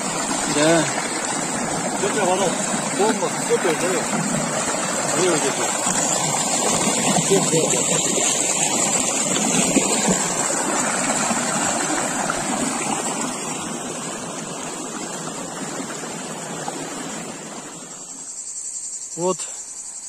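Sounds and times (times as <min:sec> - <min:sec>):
stream rushing over rocks: 0:00.0 - 0:18.2
insects chirring: 0:00.0 - 0:20.0.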